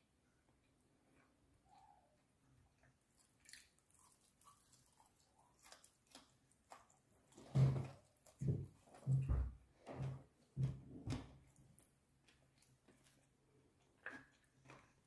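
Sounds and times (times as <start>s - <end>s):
chewing: 0.6s - 9.3s, 11.4s - 15.0s.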